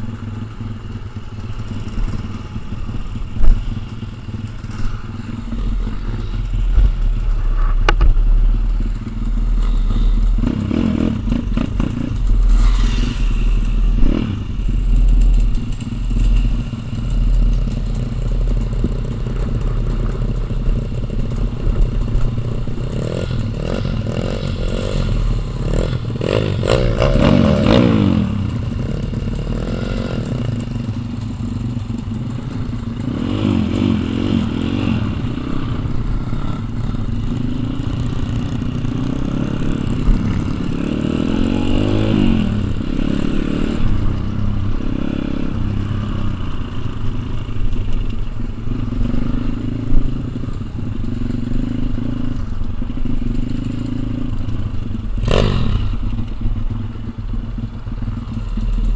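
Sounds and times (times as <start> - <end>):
small motorbike engines revving: 0.0 - 58.9.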